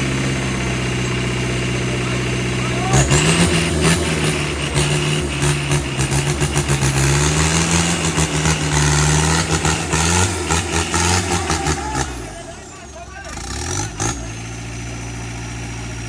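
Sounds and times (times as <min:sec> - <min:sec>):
pickup engine running: 0:00.0 - 0:16.0.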